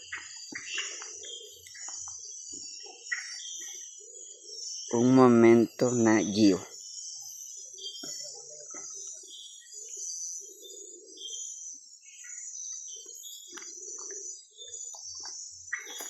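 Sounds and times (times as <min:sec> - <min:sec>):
chorus of night insects: 0:00.0 - 0:16.0.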